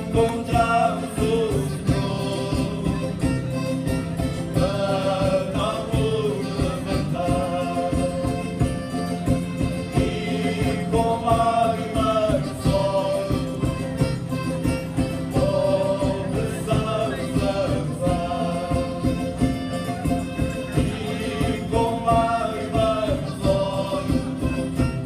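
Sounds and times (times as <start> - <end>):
group singing in chorus: 0.0 - 25.0
strummed small guitars: 0.0 - 25.0.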